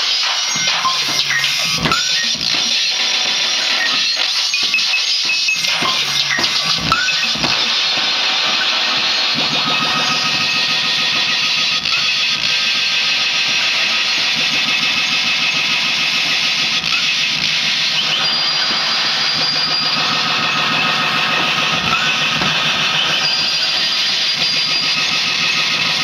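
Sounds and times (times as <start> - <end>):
distorted noise music drone: 0.0 - 26.0.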